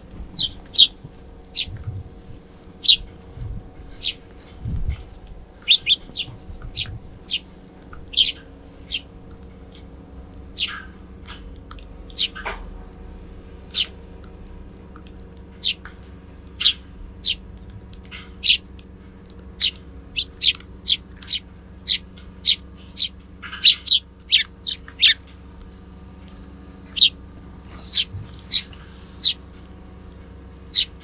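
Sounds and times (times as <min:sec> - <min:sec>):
sparrows chirping: 0:00.0 - 0:31.0
steady low hum: 0:00.0 - 0:31.0.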